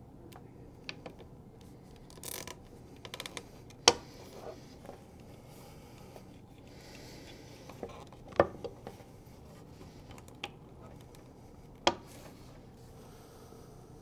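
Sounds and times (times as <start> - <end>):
fingers handling cable tie: 0.3 - 5.4, 6.0 - 12.4.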